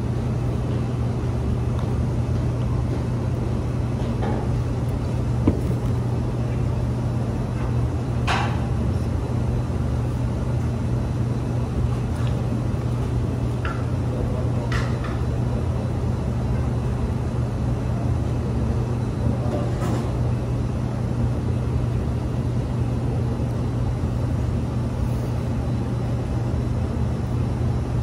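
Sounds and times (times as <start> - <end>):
machine hum with low drone: 0.0 - 28.0.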